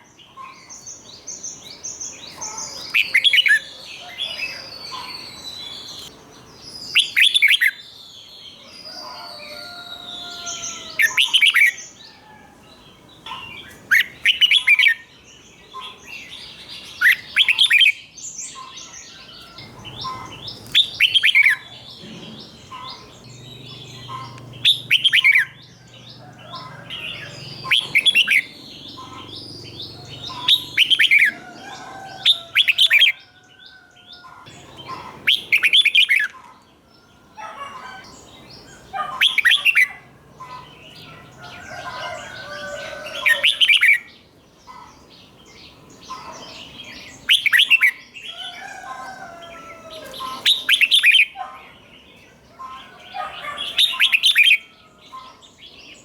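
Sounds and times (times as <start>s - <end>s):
bird singing sliding phrases: 0.0s - 56.0s.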